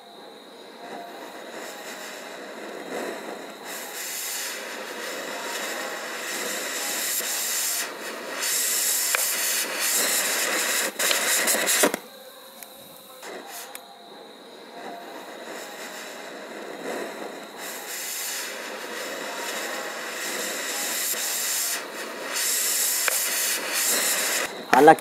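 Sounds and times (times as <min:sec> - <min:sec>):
gas jet flame hissing: 0:00.0 - 0:25.0.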